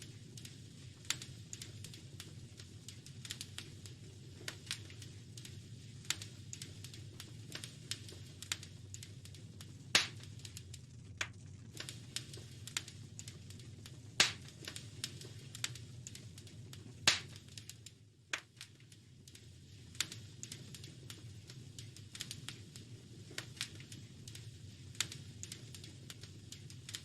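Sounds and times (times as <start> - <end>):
loud fire pops: 0.0 - 27.0
low steady rumble: 0.0 - 27.0
wood fire crackling: 0.0 - 27.0.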